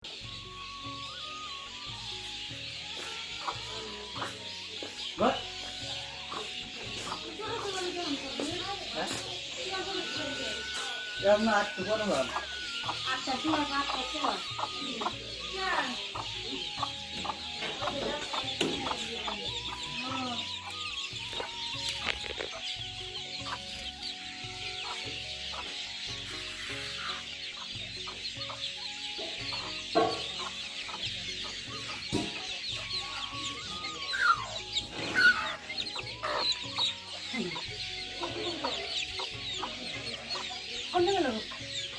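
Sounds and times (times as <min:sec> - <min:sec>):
chickens clucking: 0:00.0 - 0:41.9
small birds chirping: 0:00.0 - 0:41.9.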